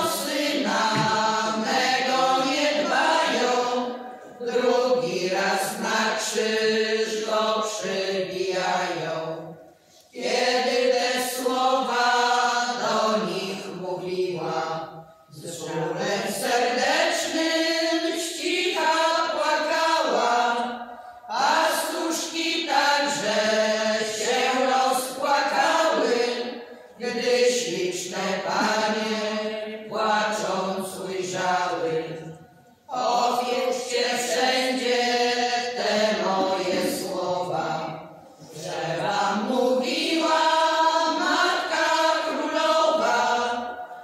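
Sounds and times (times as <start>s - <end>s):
women singing a cappella: 0.0s - 44.0s.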